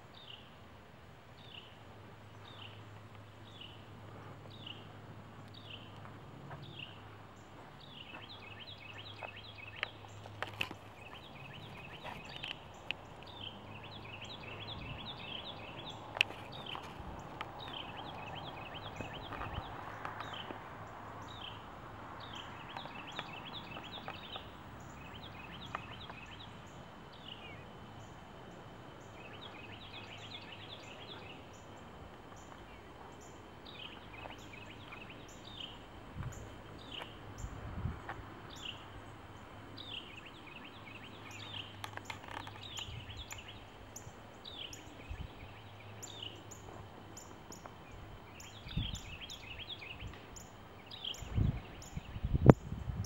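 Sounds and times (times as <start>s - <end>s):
small birds chirping: 0.0s - 0.6s, 1.3s - 53.0s
faint outdoor background: 0.0s - 53.0s.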